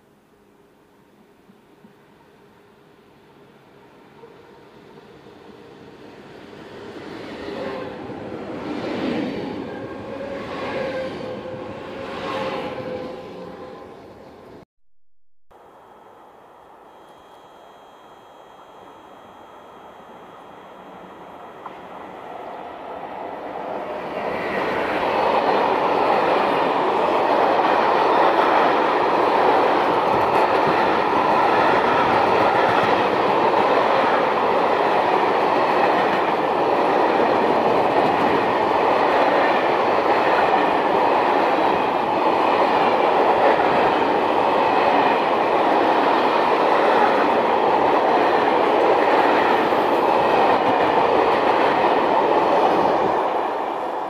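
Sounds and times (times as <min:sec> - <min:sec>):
freight train wheels on rails: 0:04.5 - 0:14.6, 0:16.9 - 0:54.0.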